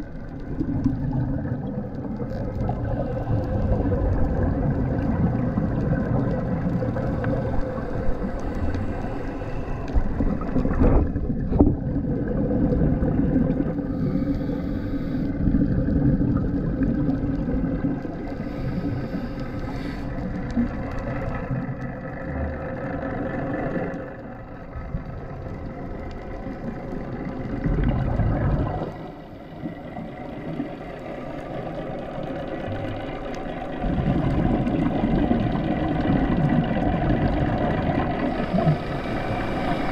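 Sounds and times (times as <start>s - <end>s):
boat motor rumbling underwater: 0.0s - 39.9s.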